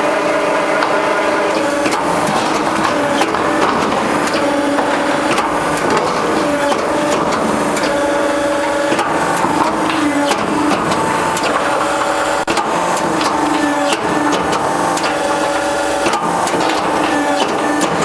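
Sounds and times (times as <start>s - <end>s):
motor whine: 0.0s - 17.9s
crimping machine clattering: 0.7s - 18.0s.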